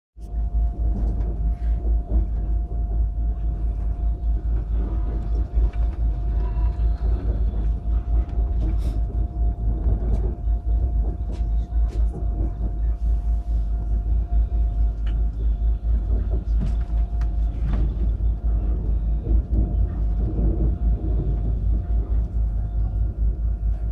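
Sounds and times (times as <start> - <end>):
thin steady hum: 0.2 - 23.9
train low rumble: 0.2 - 23.9.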